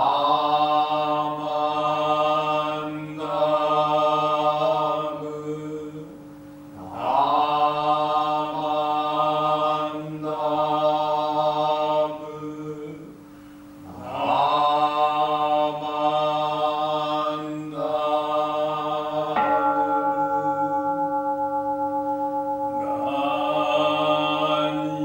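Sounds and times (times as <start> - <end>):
liturgical chanting: 0.0 - 25.0.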